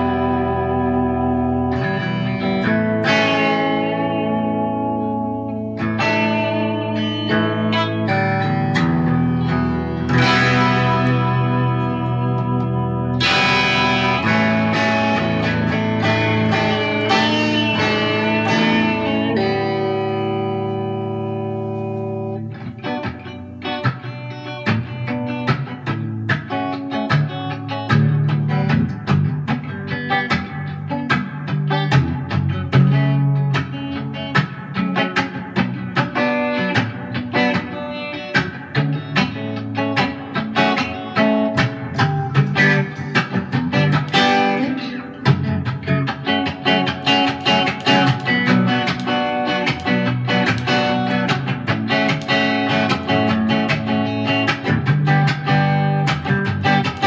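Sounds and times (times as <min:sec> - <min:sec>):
electric guitar chords: 0:00.0 - 0:57.0
electric guitar rhythmic picking: 0:00.0 - 0:57.0.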